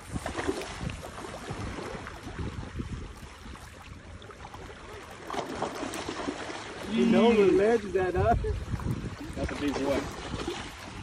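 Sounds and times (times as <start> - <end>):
small waves lapping: 0.0 - 11.0
wind buffeting microphone: 0.0 - 11.0.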